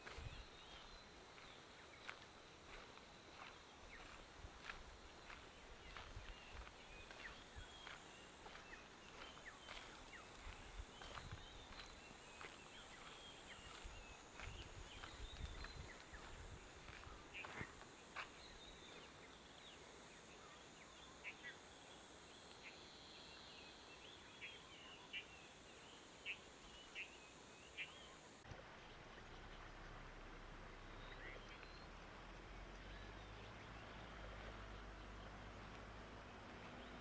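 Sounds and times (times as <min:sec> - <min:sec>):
steady high-pitched hum: 0:00.0 - 0:31.9
faint birds chirping: 0:00.0 - 0:37.0.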